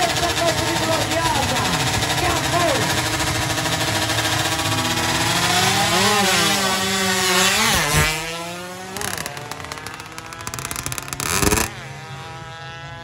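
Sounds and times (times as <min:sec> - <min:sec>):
motorcycles racing past: 0:00.0 - 0:13.0.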